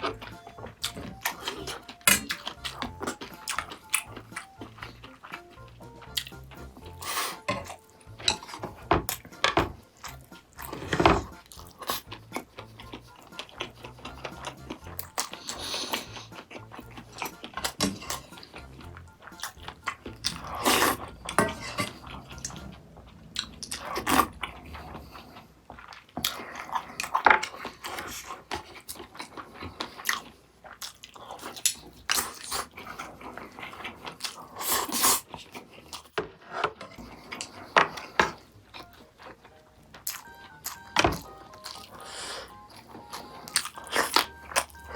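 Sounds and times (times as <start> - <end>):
biting and chewing: 0.0 - 44.9.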